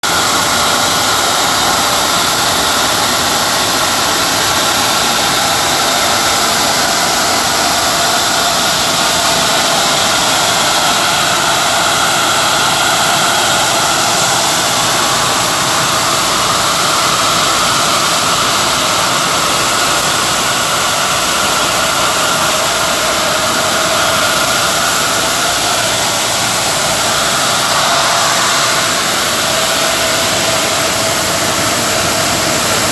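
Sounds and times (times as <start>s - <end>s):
rice polishing machine rushing: 0.0s - 32.9s.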